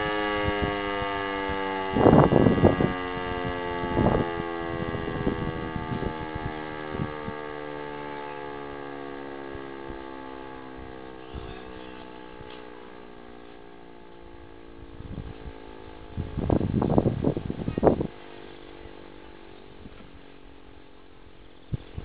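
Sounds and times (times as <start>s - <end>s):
electric siren winding down: 0.0s - 22.0s.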